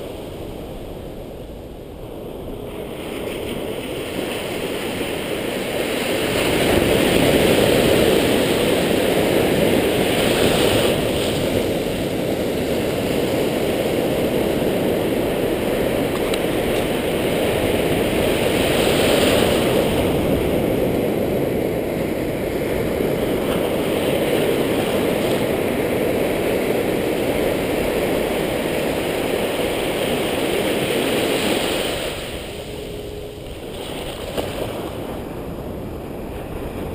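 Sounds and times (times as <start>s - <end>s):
waves breaking and foaming: 0.0s - 36.9s
wind rumble on microphone: 0.0s - 36.9s.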